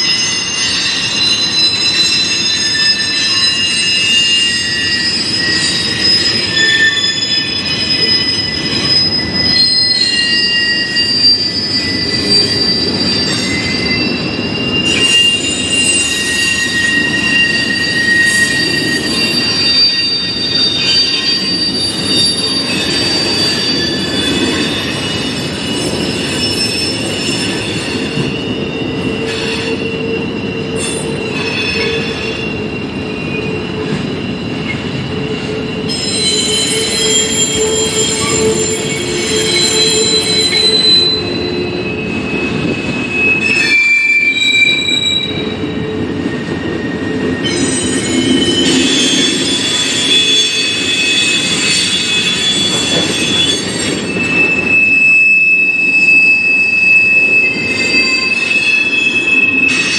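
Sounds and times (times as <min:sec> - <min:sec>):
wheels squealing on rails: 0:00.0 - 0:59.9.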